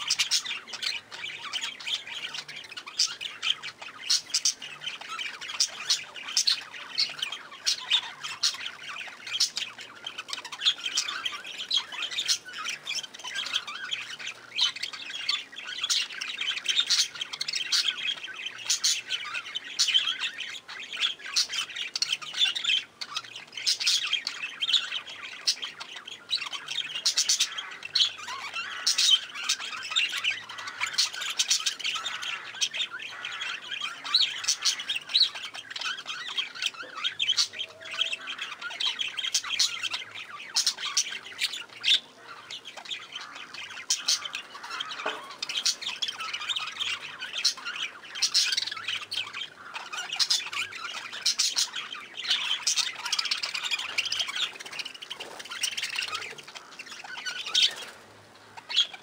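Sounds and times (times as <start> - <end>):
budgerigars chattering and squawking: 0.0 - 59.0.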